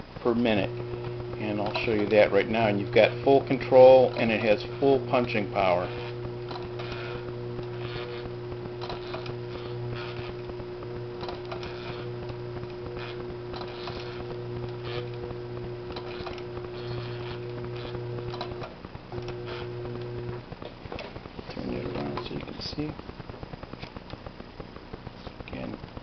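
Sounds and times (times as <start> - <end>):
sewing machine motor hum: 0.0 - 22.8.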